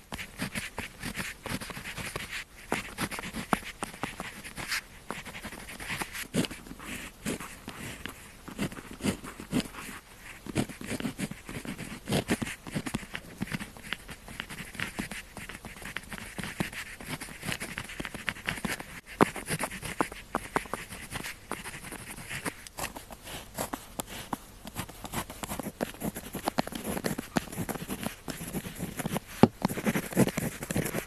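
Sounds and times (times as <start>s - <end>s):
pen scratching on paper: 0.1s - 31.0s.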